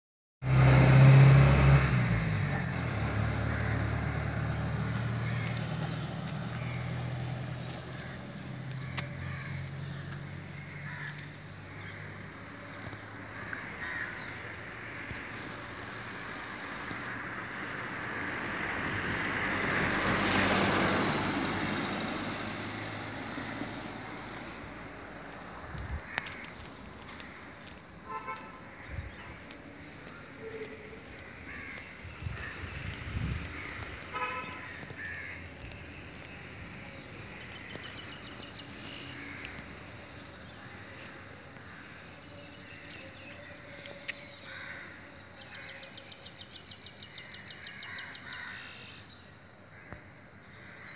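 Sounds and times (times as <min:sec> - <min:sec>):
vehicle passing: 0:00.4 - 0:45.1
vehicle engine: 0:00.4 - 0:48.9.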